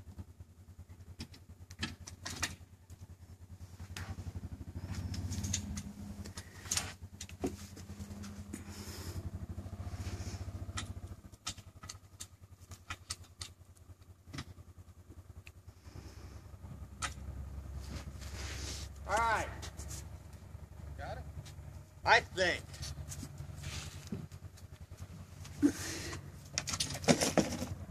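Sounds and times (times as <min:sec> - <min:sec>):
utility vehicle engine running: 0:00.0 - 0:27.9.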